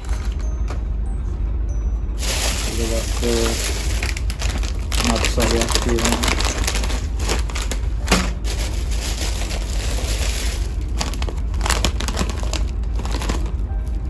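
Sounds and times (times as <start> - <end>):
steady low hum: 0.0 - 14.0
plastic packaging crinkling: 2.2 - 14.0.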